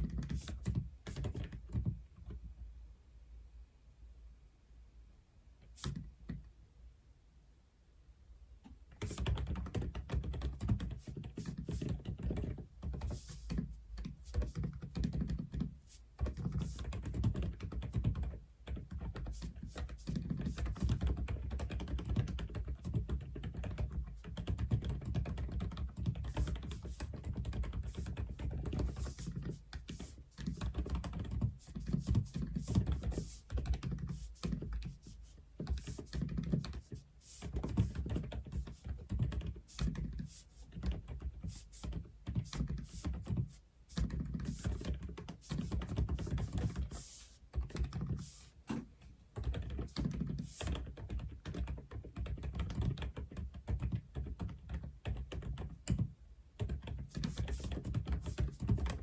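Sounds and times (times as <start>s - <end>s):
mechanical keyboard typing: 9.0s - 48.4s, 49.4s - 59.0s.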